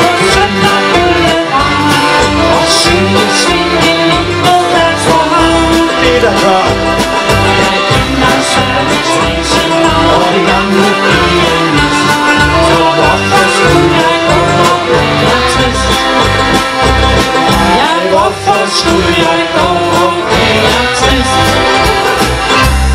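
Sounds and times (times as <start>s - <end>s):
accordion: 0.0s - 22.9s
steady bass beat: 0.0s - 22.9s.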